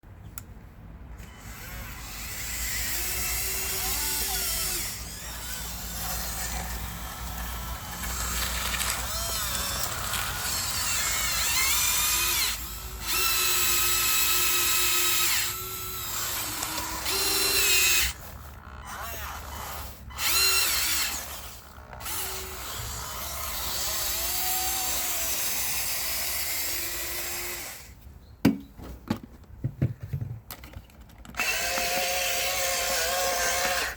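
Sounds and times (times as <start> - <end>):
electric motors and gearboxes whining: 1.1 - 28.0, 31.3 - 33.9.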